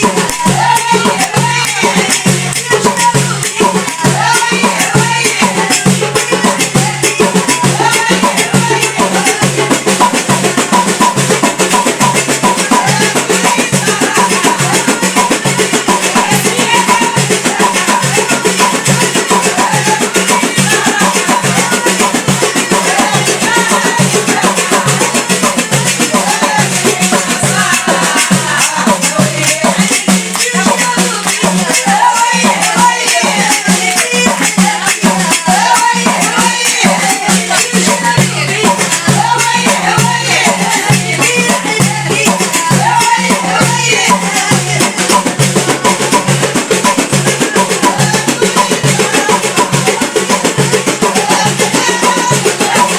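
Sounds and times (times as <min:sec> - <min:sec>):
hand percussion and shakers: 0:00.0 - 0:52.9.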